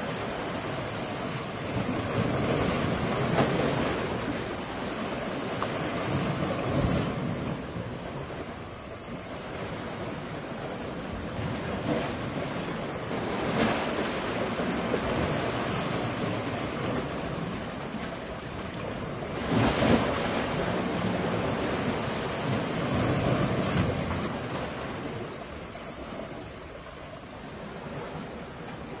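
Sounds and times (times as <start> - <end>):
ocean waves crashing: 0.0 - 29.0.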